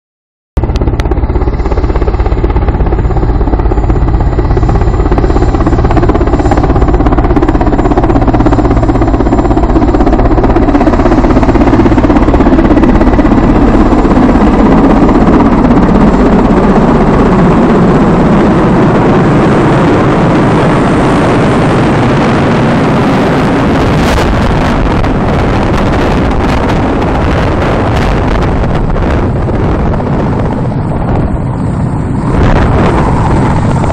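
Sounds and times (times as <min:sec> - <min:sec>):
helicopter rotor and engine: 0:00.6 - 0:33.9
wind buffeting microphone: 0:00.6 - 0:33.9.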